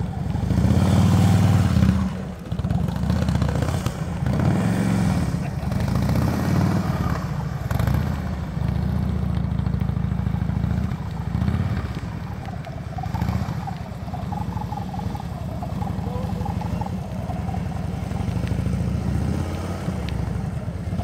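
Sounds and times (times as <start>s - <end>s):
motorcycle engine low rumble: 0.0s - 21.0s.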